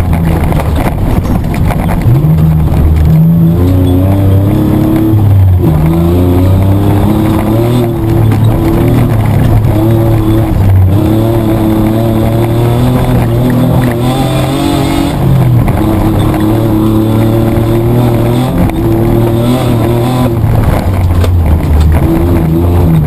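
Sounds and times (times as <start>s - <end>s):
petrol engine revving: 0.0s - 23.0s.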